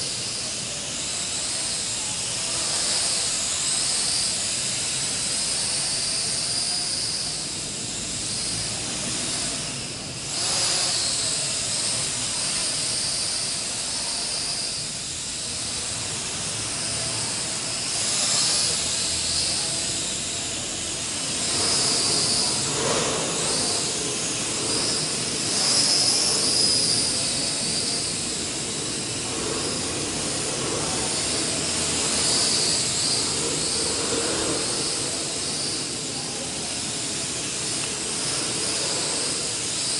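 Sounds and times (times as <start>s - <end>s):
quadcopter motors whining: 0.0s - 39.9s.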